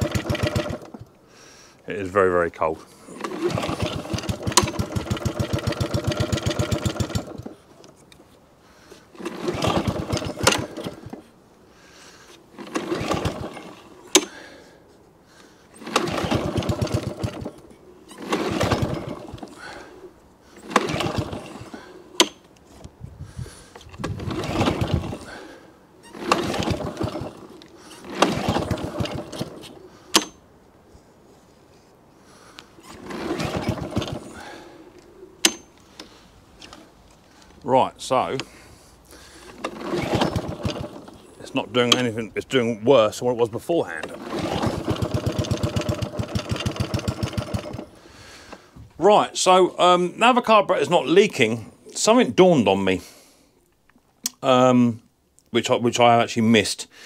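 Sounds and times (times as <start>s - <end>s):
lawnmower engine surging: 0.0s - 1.2s, 1.9s - 31.4s, 32.2s - 52.2s.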